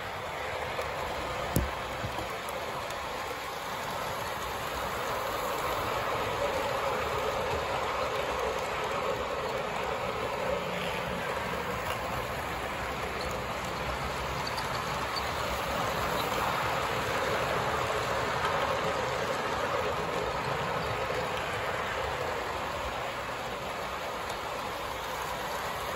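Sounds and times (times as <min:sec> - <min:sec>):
wheels rolling on track: 0:00.0 - 0:25.9
model train motor whirring: 0:00.6 - 0:23.0.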